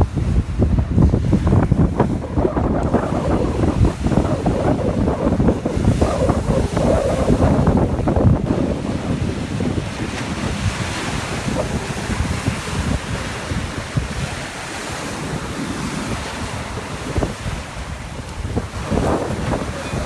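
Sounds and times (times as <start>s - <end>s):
storm wind buffeting microphone: 0.0s - 20.0s
waves rushing on water: 0.0s - 20.0s.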